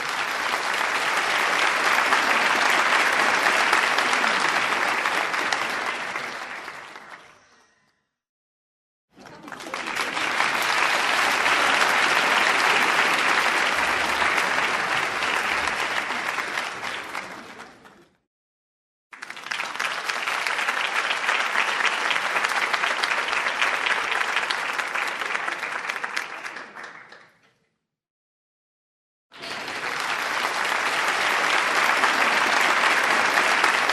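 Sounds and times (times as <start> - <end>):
audience applause: 0.0 - 7.3, 9.2 - 18.2, 19.2 - 27.5, 29.3 - 33.9.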